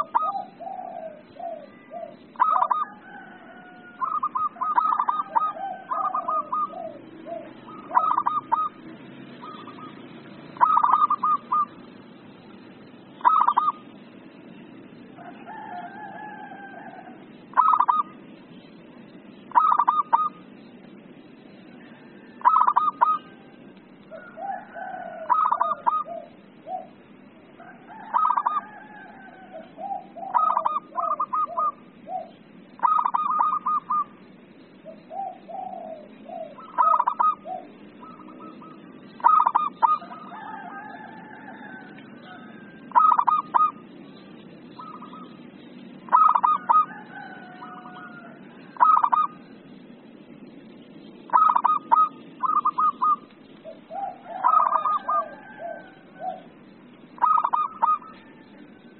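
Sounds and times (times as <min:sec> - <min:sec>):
dove cooing: 0:00.0 - 0:12.0, 0:12.9 - 0:14.2, 0:15.1 - 0:20.5, 0:21.7 - 0:49.7, 0:50.7 - 0:58.9
low steady hiss: 0:00.0 - 0:58.9.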